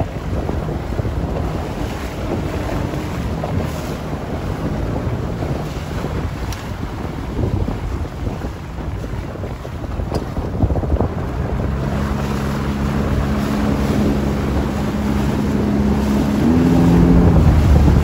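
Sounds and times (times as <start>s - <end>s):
choppy water: 0.0s - 18.0s
motorboat engine humming: 0.0s - 18.0s
wind buffeting the microphone: 0.0s - 18.0s.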